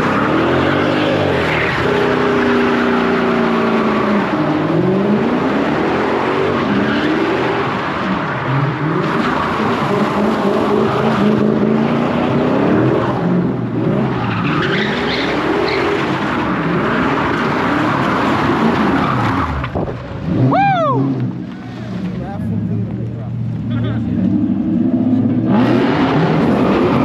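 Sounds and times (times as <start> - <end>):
tires squealing on pavement: 0.0 - 22.2, 25.5 - 27.0
car engine revving: 0.0 - 27.0.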